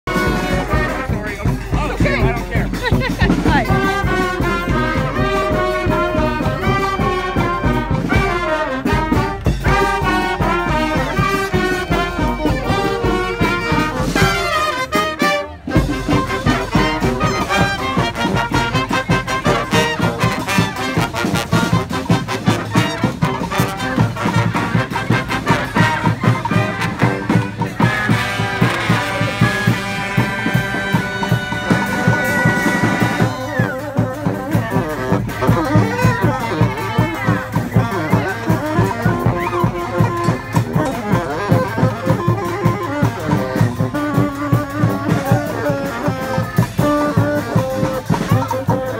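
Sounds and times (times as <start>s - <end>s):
marching brass band: 0.0s - 48.9s.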